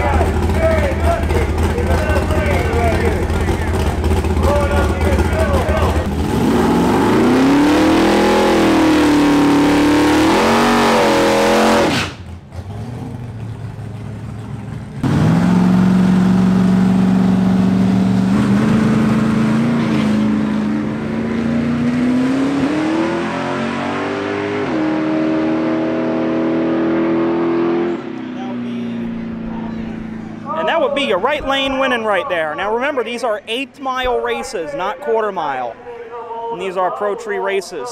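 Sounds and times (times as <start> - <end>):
race car engines revving: 0.0 - 35.9.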